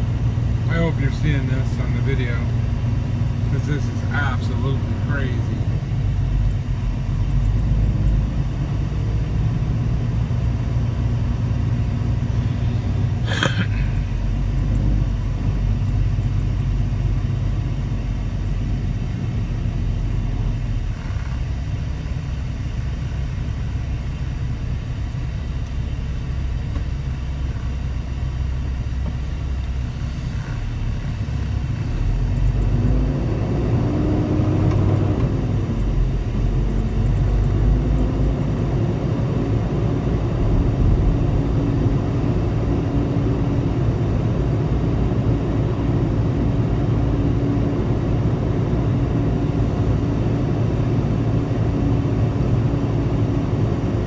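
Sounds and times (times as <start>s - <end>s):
road noise: 0.0s - 54.0s
truck diesel engine rumble: 0.0s - 54.0s.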